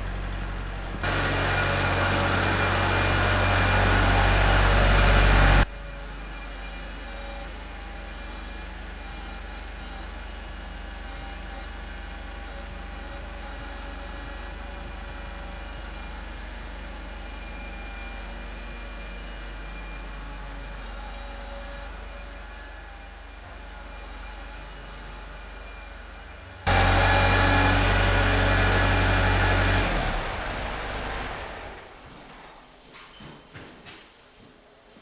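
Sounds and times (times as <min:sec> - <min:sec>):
tractor diesel engine running: 0:00.0 - 0:32.3.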